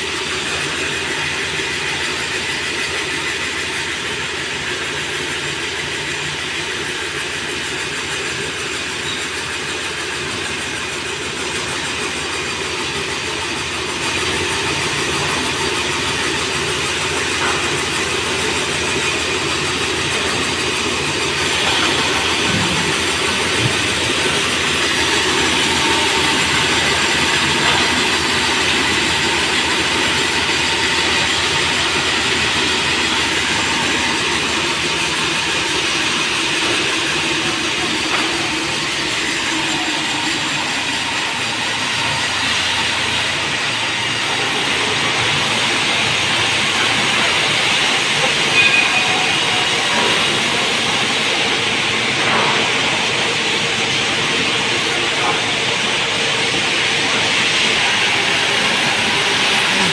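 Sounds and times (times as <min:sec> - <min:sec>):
sawmill machinery din: 0:00.0 - 0:59.9.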